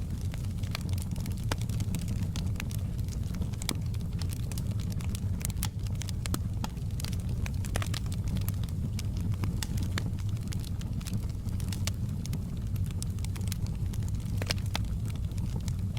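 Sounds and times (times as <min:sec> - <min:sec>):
fire crackling and popping: 0:00.0 - 0:15.9
low rumble of flames: 0:00.0 - 0:15.9.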